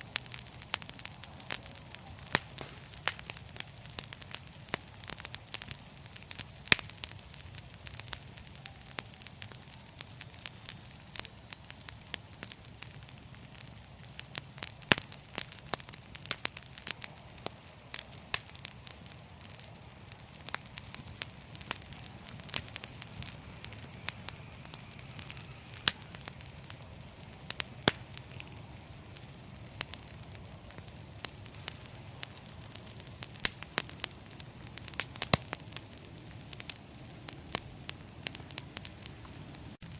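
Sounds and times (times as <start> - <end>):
fire popping and snapping: 0.0 - 39.9
low rumble of flames: 0.0 - 39.9
wood fire crackling: 0.0 - 39.9.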